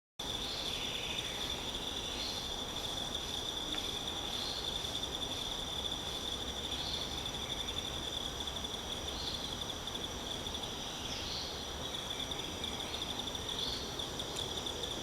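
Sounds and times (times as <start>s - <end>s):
shrill insect chorus: 0.2s - 15.0s.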